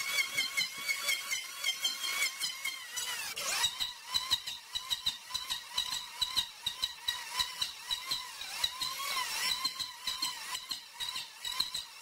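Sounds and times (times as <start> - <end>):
electric hand planer whining: 0.0 - 12.0
planer blades cutting wood: 0.0 - 12.0.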